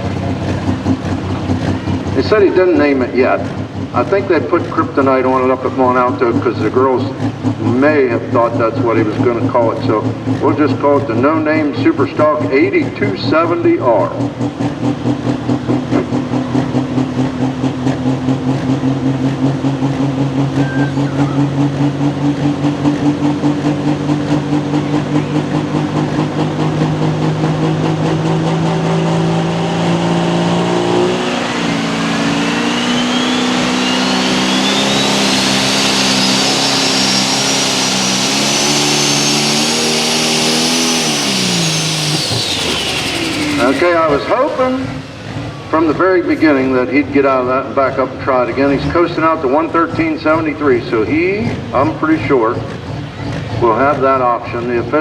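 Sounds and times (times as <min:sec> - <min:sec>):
tractor diesel engine running hard: 0:00.0 - 0:55.0
turbo whine: 0:00.0 - 0:55.0.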